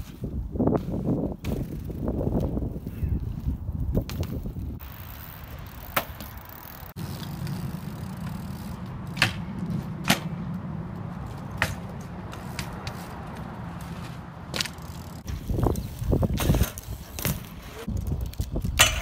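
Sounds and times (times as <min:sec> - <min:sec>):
bike tyres rolling on concrete: 0:00.0 - 0:19.0
bike clacking against concrete: 0:00.8 - 0:02.6, 0:03.9 - 0:19.0.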